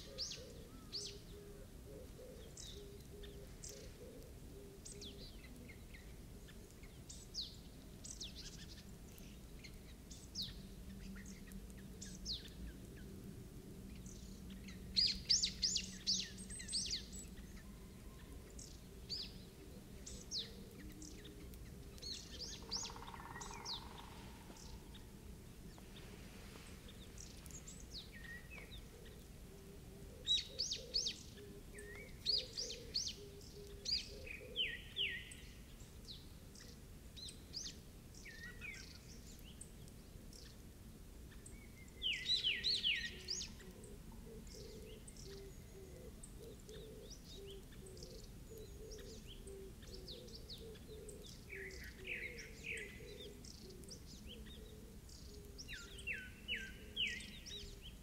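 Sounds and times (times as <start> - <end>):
birds chirping: 0.0 - 13.1, 13.9 - 40.6, 41.3 - 58.0.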